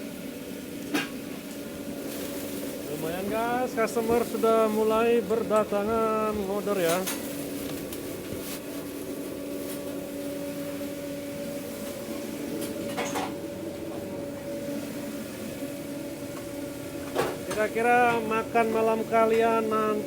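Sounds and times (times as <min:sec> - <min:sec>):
kitchen equipment humming: 0:00.0 - 0:20.0.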